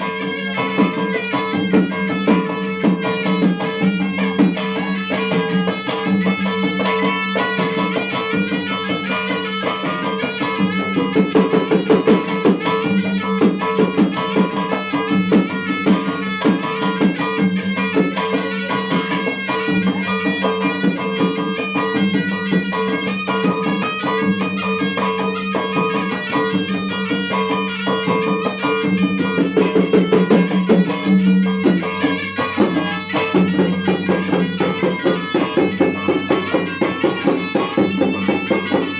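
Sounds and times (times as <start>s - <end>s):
drums beaten fast: 0.0s - 38.9s
reedy wind instrument melody: 0.0s - 38.9s.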